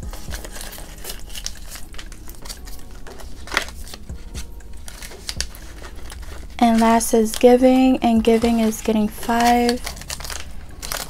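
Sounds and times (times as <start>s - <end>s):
banknotes rustling: 0.0s - 11.0s.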